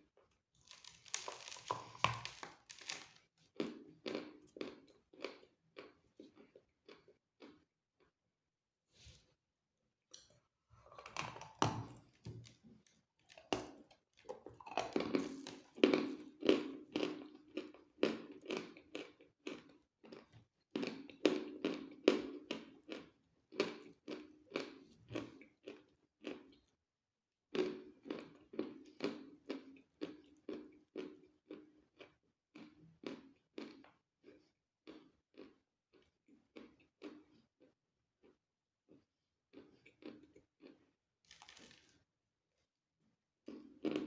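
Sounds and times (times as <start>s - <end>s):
chewing and crunching chalk: 0.1s - 8.2s, 10.8s - 26.8s, 27.5s - 42.0s.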